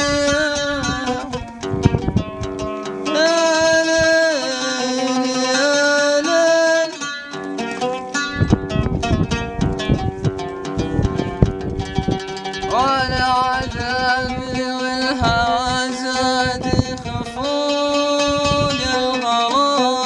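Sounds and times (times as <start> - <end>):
oud plucked: 0.0 - 20.0.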